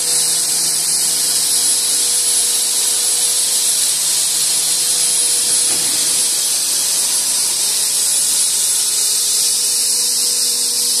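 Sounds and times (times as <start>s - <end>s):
machine motor hum: 0.0s - 11.0s
saw blades high-pitched hiss: 0.0s - 11.0s.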